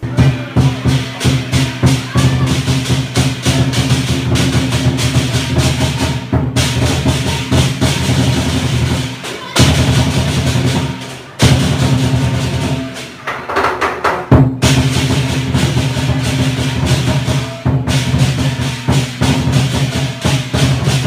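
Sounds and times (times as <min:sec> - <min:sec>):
clashing cymbals: 0:00.0 - 0:13.3, 0:14.5 - 0:21.0
large drum rolls: 0:00.0 - 0:21.0.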